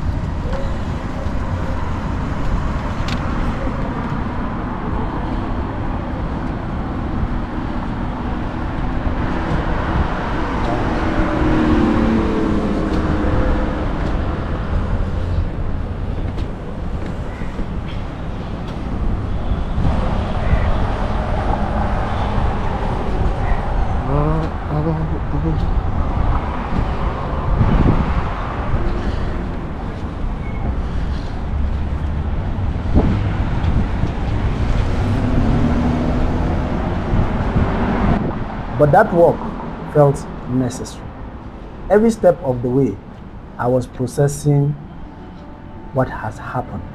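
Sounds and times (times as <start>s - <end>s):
engine hum: 0.0s - 43.7s
road traffic rushing: 0.0s - 46.9s.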